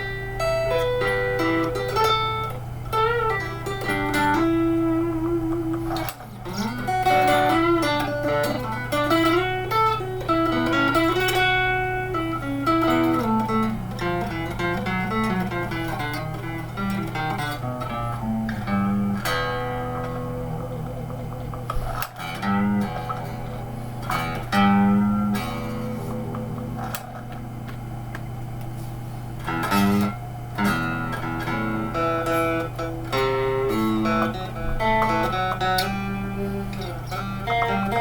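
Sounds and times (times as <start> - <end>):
electric guitar melody: 0.0 - 38.0
low amplifier hum: 0.0 - 38.0.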